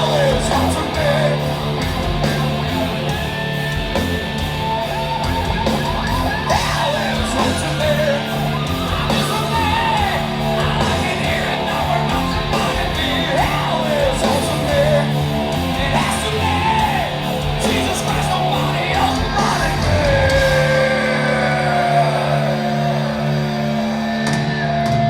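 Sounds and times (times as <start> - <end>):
high wordless vocal wails: 0.0 - 3.5, 4.9 - 24.6
heavy metal band playing: 0.0 - 25.0.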